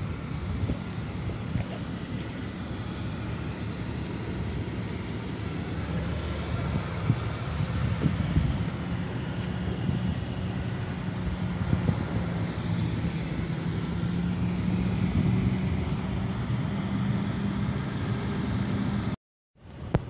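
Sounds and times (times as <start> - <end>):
diesel truck engine running: 0.0 - 19.2
road noise: 0.0 - 20.0.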